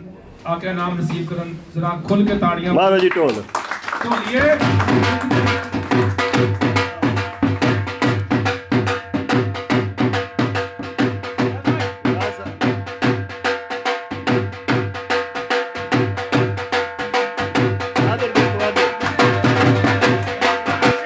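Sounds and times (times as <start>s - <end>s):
drum played in fast rhythm: 3.9s - 21.0s.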